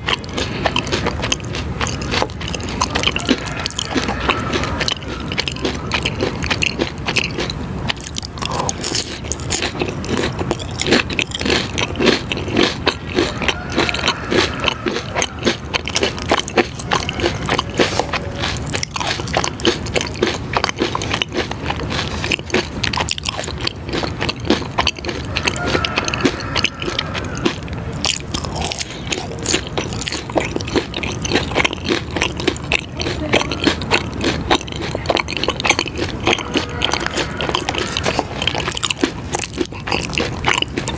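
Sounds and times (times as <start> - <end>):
biting and chewing crunchy food: 0.0 - 40.9.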